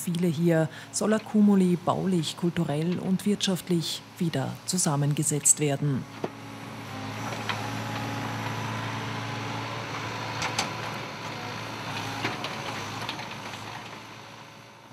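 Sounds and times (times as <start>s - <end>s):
excavator engine running: 0.0s - 14.9s.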